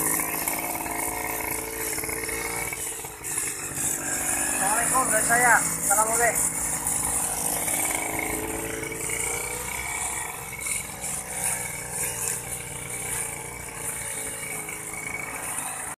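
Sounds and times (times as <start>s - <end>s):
brush cutter engine running: 0.0s - 16.0s.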